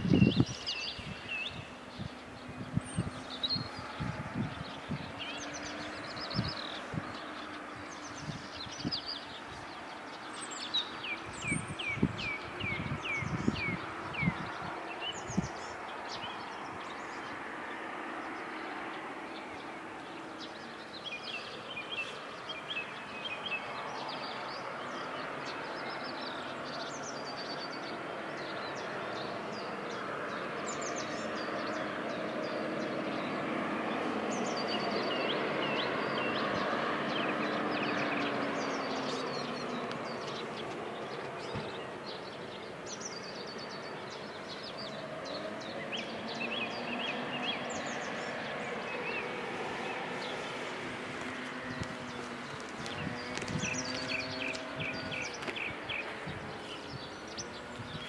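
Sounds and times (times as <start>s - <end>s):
distant engine hum: 0.0s - 58.0s
small birds chirping and singing: 0.0s - 58.0s.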